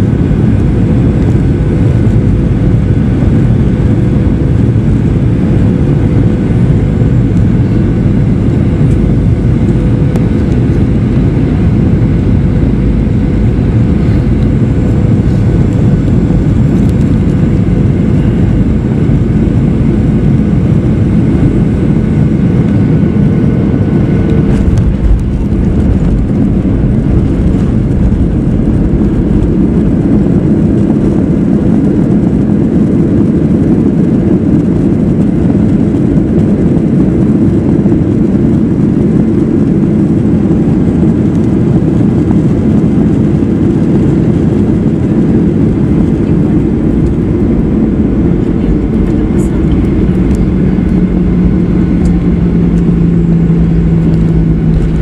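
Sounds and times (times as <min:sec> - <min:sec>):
airliner engine and airflow rumble: 0:00.0 - 0:55.0.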